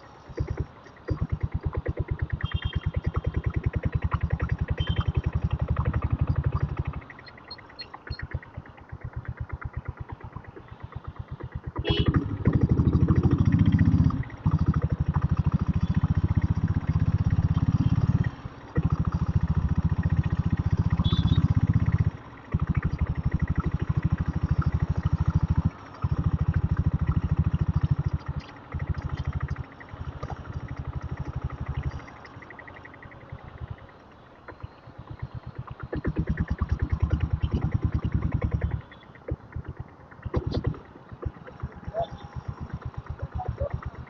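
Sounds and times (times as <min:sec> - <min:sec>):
motorcycle engine chugging: 0:00.0 - 0:44.0.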